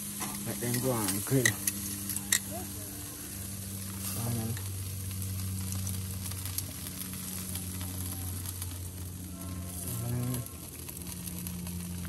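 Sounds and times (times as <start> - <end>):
chicken sizzling and crackling: 0.0 - 12.0
steady low hum: 0.0 - 12.0.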